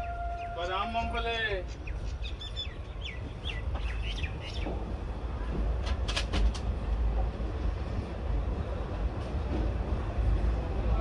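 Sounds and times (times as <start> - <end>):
train rumbling low: 0.0 - 11.0.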